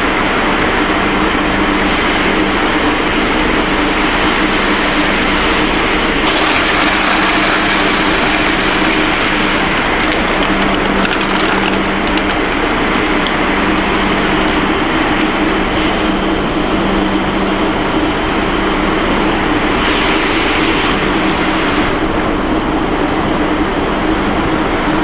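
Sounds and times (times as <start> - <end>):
production line machinery din: 0.0 - 25.0.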